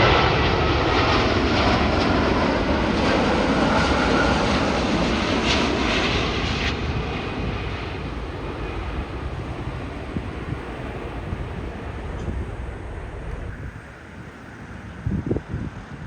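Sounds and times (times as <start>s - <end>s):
jet engines rumbling on landing: 0.0s - 16.0s.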